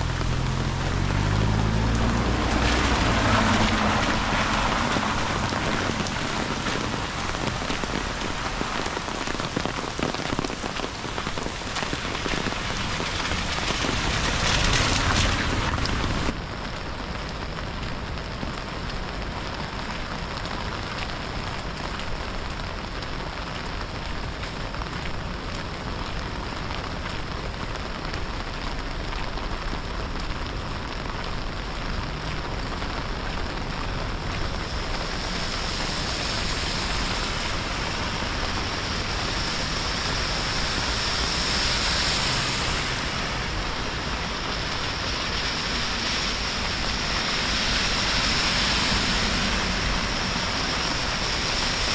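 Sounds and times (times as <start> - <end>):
steady rain hissing: 0.0 - 51.9.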